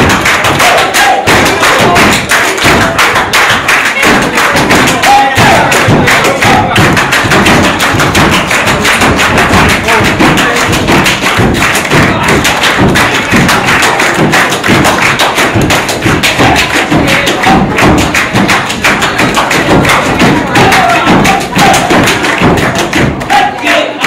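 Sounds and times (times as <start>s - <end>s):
hand claps and slaps: 0.0s - 23.8s.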